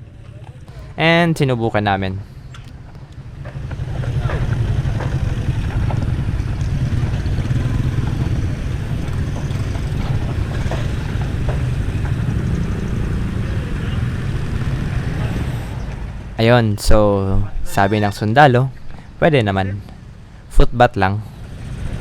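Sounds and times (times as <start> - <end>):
wind buffeting microphone: 0.6 - 20.5.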